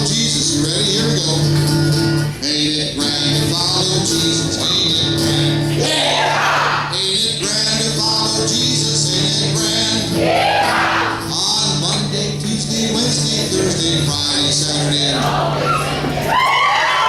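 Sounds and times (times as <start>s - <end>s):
band playing: 0.0s - 16.6s
congregation singing gospel song: 0.0s - 17.0s.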